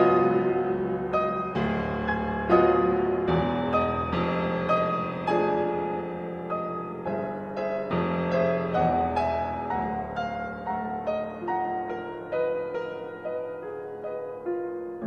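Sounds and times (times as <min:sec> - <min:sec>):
grand piano solo: 0:00.0 - 0:15.0.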